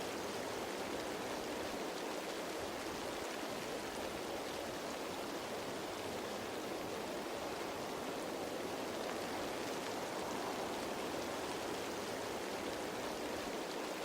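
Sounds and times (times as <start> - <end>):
rain falling on leaves: 0.0 - 14.0.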